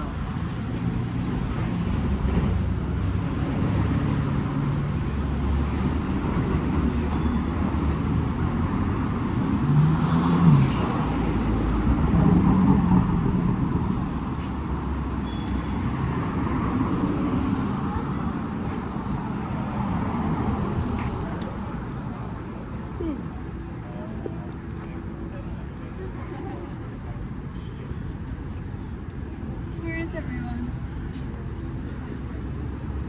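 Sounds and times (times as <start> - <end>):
vehicles driving past: 0.0 - 33.0.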